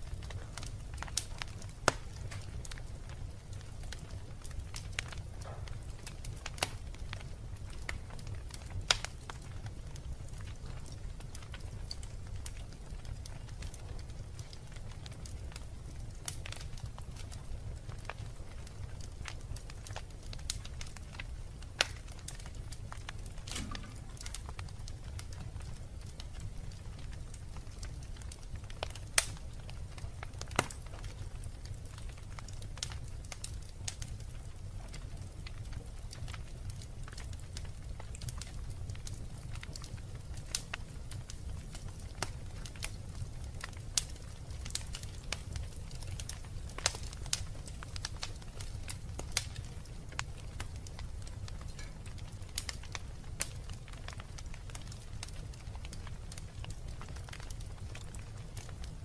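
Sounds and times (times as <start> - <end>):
loud pops of fire: 0.0 - 59.0
wood fire crackling: 0.0 - 59.0.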